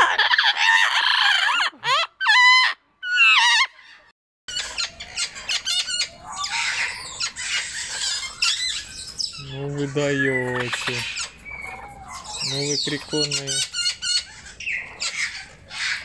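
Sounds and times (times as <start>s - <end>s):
parrots squawking loudly: 0.0s - 16.0s
warbling wavering bird calls: 0.0s - 16.0s.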